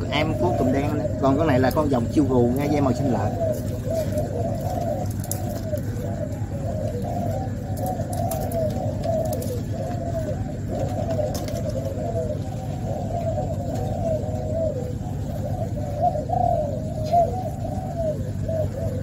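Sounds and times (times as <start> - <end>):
doves cooing: 0.0 - 19.0
steady low rumble: 0.0 - 19.0.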